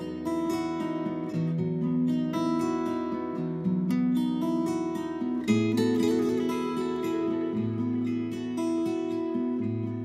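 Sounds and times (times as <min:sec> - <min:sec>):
acoustic guitar plucked notes: 0:00.0 - 0:10.0.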